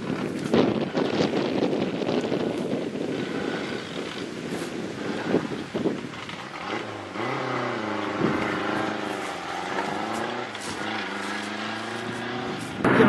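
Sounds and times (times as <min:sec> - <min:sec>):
car engine revving: 0:01.5 - 0:13.0.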